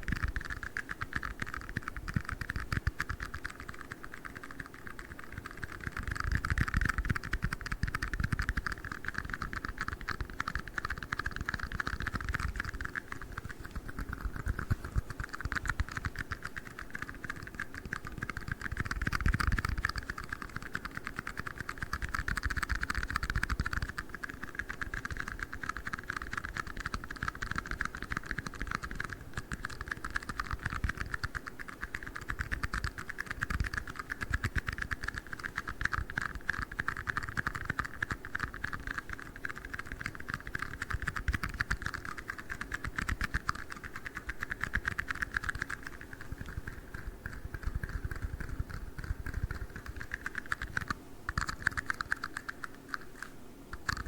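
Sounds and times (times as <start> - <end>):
rapid tapping on small cups: 0.0 - 53.2.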